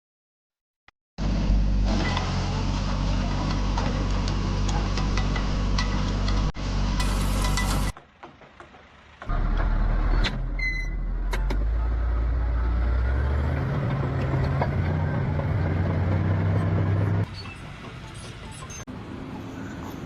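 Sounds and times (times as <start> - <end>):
heavy diesel engines running: 1.2 - 20.0.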